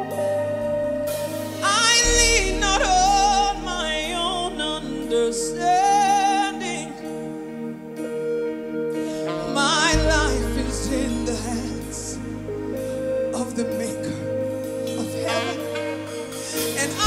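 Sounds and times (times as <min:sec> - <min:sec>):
sustained instrumental chords: 0:00.0 - 0:17.0
woman singing gospel: 0:01.5 - 0:07.5, 0:09.0 - 0:17.0.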